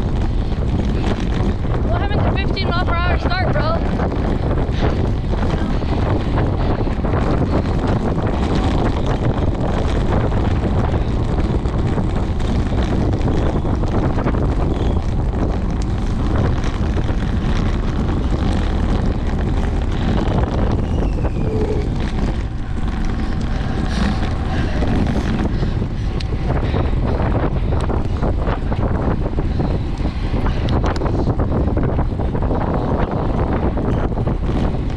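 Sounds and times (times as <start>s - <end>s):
wind rumble on microphone: 0.0s - 34.9s.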